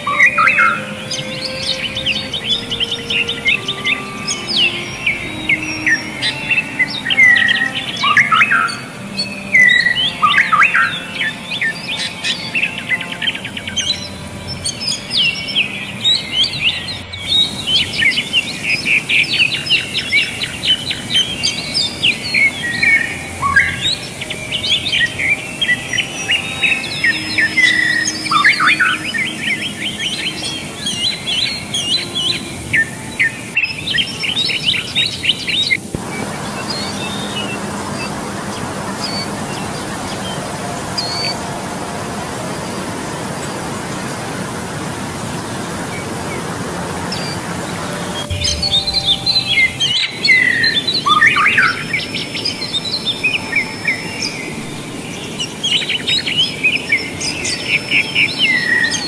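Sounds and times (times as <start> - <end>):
birds chirping and singing: 0.0 - 59.0
rushing waterfall and stream: 0.0 - 59.0.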